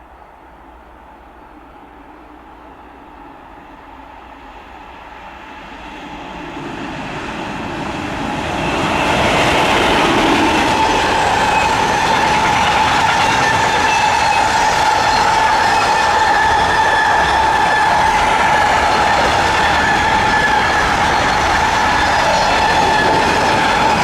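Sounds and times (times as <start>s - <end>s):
train wheels rushing on rail: 0.0s - 24.0s.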